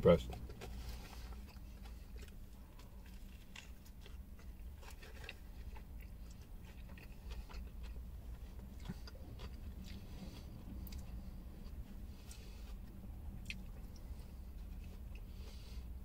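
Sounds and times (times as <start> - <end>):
low steady hum: 0.0 - 16.0
person chewing food: 0.3 - 16.0.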